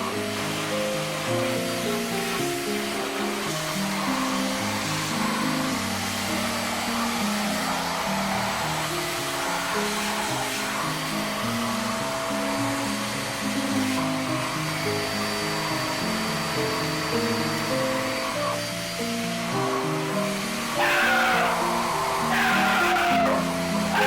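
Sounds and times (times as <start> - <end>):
background music: 0.0 - 24.0
vacuum cleaner running: 0.0 - 24.0.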